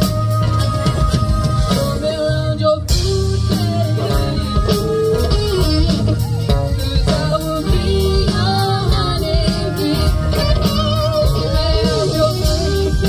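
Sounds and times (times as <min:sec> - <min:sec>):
electric guitar: 0:00.0 - 0:13.0
rock band playing: 0:00.0 - 0:13.0.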